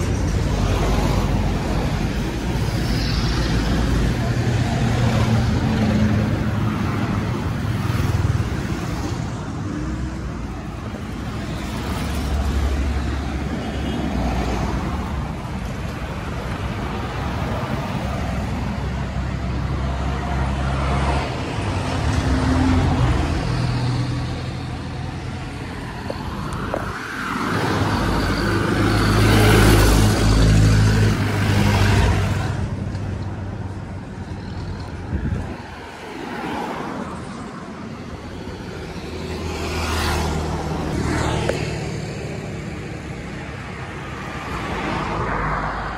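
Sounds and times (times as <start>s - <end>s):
road traffic passing: 0.0s - 45.9s.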